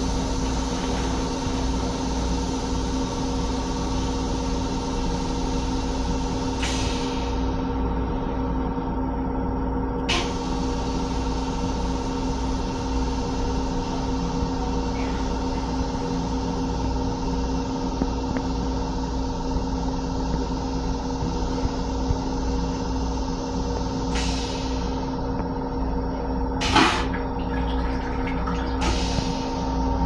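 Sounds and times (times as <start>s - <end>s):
electric railcar rumble and hum: 0.0s - 30.0s.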